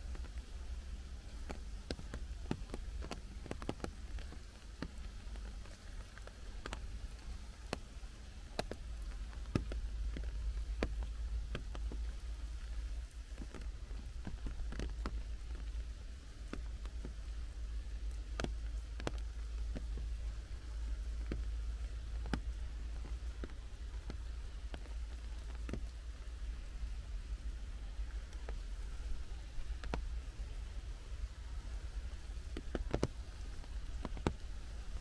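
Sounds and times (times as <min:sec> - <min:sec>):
raindrops tapping: 0:00.0 - 0:35.0.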